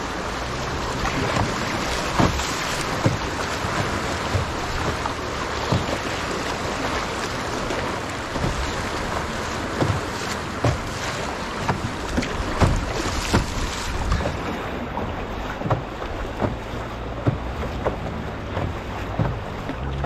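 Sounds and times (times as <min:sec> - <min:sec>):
splashes and knocks against hull: 0:00.0 - 0:20.0
water rushing: 0:00.0 - 0:20.0.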